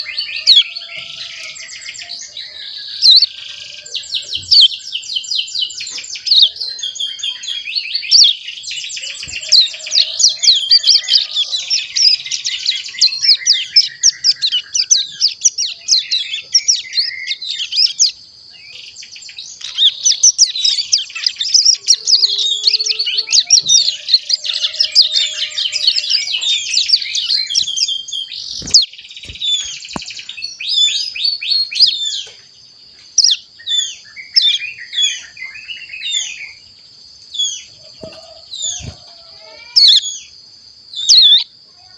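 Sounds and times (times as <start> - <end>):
young bird twittering chirps and trills: 0.0 - 41.9.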